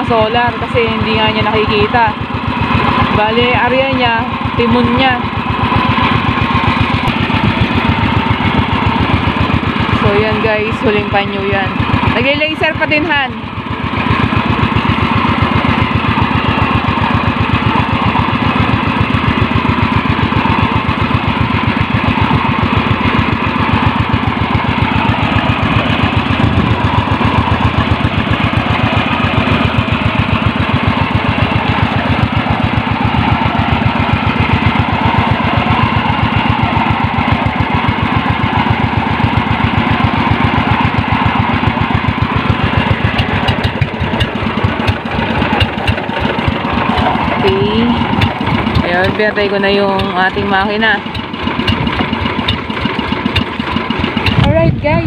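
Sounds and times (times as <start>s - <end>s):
boat engine chugging: 0.0s - 55.0s.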